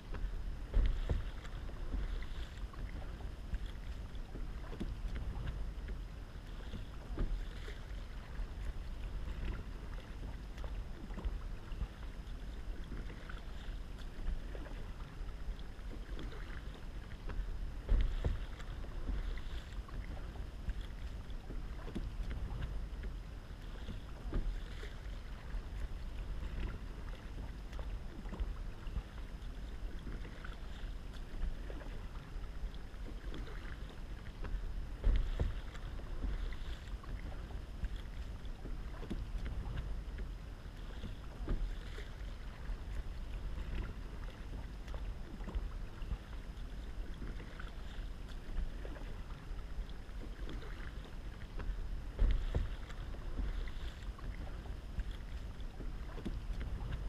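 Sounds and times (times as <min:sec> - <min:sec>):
paddle splashing in water: 0:00.0 - 0:57.0
wind on microphone: 0:00.0 - 0:57.0.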